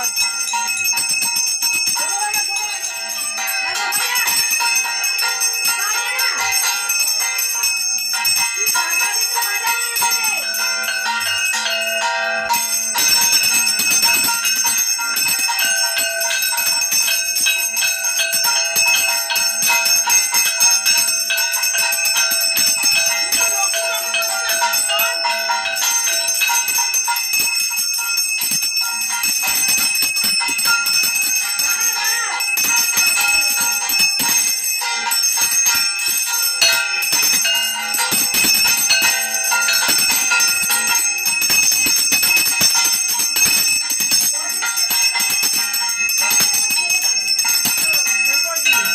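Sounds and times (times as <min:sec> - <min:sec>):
hand bell ringing: 0:00.0 - 0:48.9.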